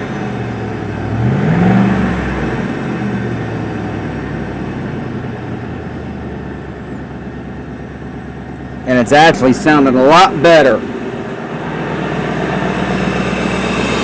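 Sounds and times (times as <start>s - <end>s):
truck engine revving and idling: 0.0s - 14.0s.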